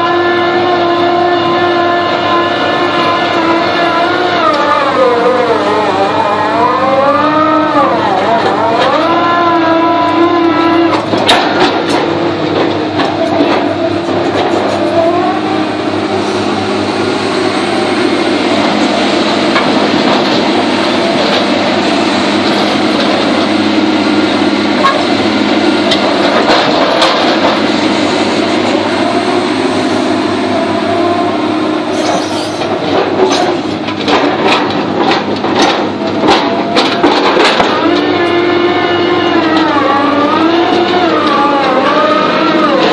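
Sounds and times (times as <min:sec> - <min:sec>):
drilling rig engine and hydraulics: 0:00.0 - 0:42.9.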